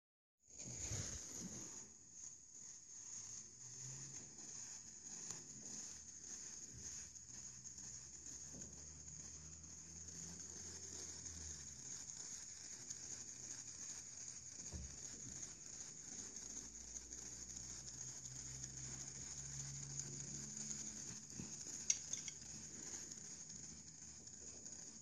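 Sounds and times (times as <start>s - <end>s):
tesla coil sizzling hiss: 0.5s - 25.0s.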